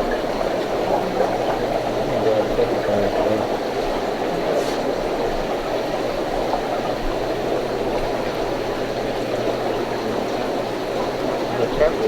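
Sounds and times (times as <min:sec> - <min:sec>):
aquarium filters bubbling: 0:00.0 - 0:12.0
low electrical pump hum: 0:00.0 - 0:12.0.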